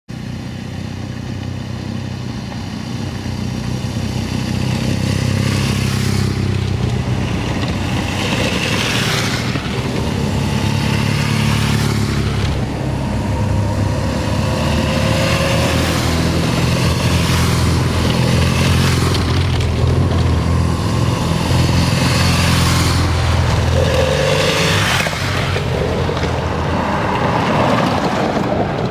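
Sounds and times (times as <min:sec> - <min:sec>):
motorcycle engine running: 0:00.1 - 0:26.8
rushing whoosh: 0:04.5 - 0:28.9.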